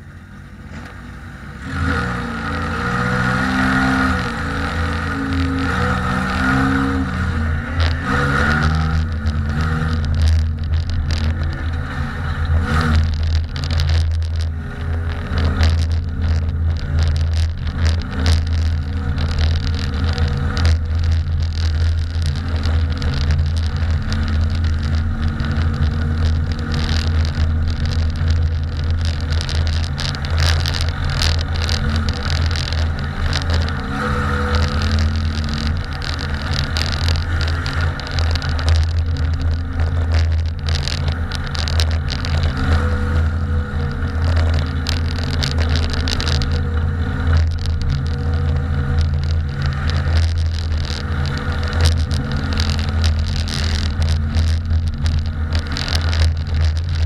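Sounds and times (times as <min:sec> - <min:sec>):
race car engine running hard: 0:00.0 - 0:57.0
sharp knocks and rattles: 0:03.2 - 0:57.0.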